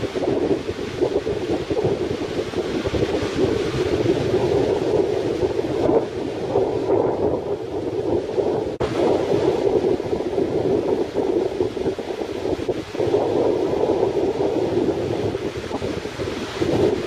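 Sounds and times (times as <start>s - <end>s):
gusty wind buffeting microphone: 0.0s - 17.0s
surf breaking on beach: 0.0s - 17.0s.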